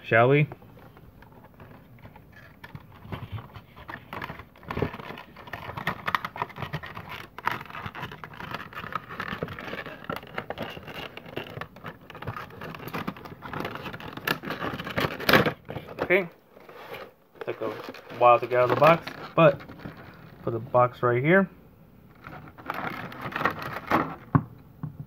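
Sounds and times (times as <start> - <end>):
crinkling: 0.2 - 20.8, 22.0 - 24.5
cardboard scraping and rustling: 0.5 - 20.6, 22.2 - 24.4.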